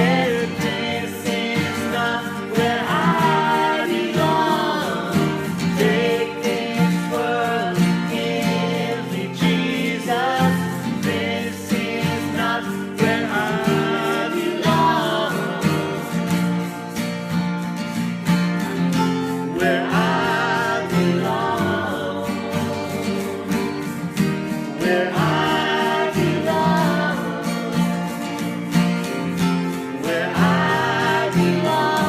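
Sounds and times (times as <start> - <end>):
person singing: 0.0 - 17.0, 19.3 - 32.0
strummed acoustic guitar: 0.0 - 32.0.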